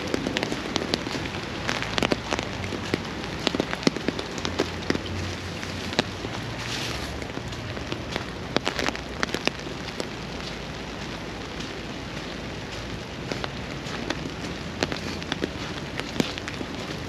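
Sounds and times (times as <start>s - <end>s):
raindrops tapping near microphone: 0.0s - 17.0s
steady rain hiss: 0.0s - 17.0s.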